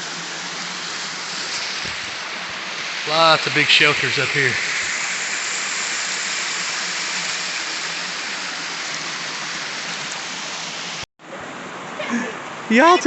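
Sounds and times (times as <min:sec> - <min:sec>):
water pouring over waterfall: 0:00.0 - 0:11.0.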